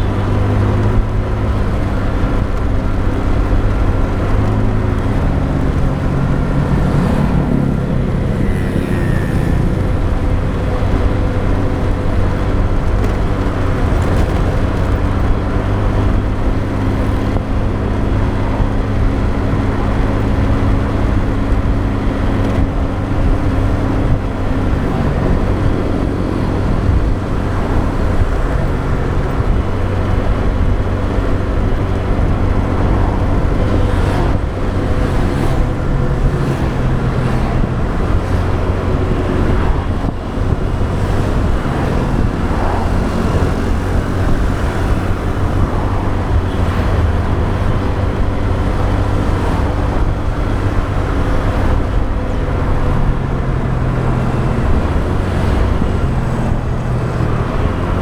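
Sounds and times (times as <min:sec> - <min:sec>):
motorbike engine running: 0:00.0 - 0:58.0
road noise: 0:00.0 - 0:58.0.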